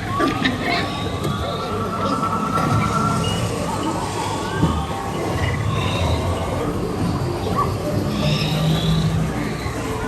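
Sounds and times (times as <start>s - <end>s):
recorded jungle creature calls: 0.6s - 10.0s.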